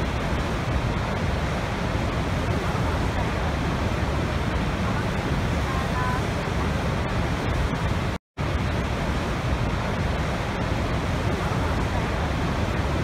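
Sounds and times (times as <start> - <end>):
roar of waterfall: 0.0 - 13.0.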